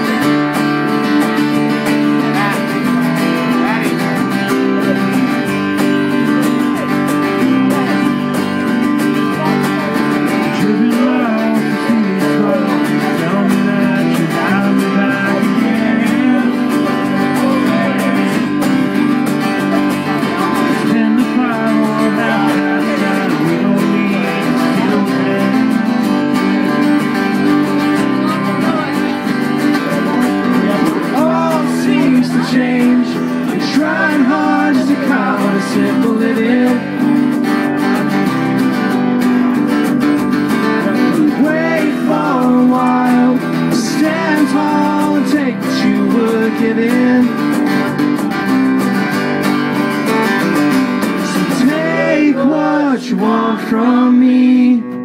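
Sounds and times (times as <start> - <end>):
bass guitar: 0.0 - 55.0
strummed acoustic guitars: 0.0 - 55.0
men singing: 1.0 - 8.6, 9.4 - 27.3, 28.0 - 37.6, 40.6 - 47.8, 50.9 - 55.0.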